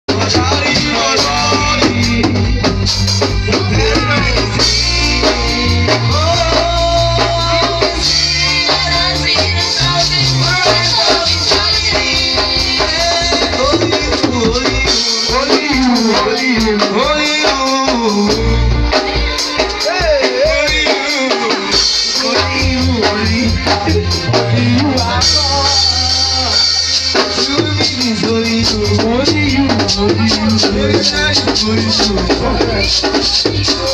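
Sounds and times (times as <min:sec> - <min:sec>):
bass line: 0:00.0 - 0:33.9
drum kit with shaker rattles: 0:00.1 - 0:33.9
person singing: 0:00.1 - 0:33.9.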